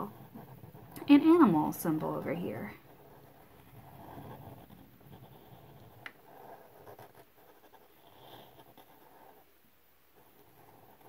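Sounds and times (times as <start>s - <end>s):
marker rubbing on paper: 0.0s - 9.5s.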